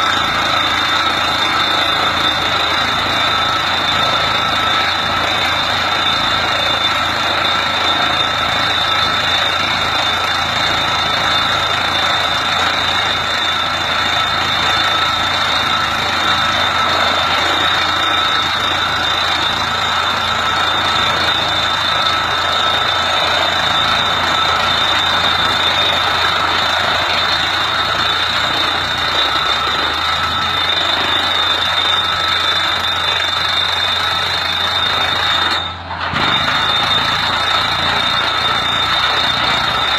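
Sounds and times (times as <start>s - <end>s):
drilling rig running: 0.0s - 39.9s
high-pitched hydraulic whine: 0.0s - 39.9s.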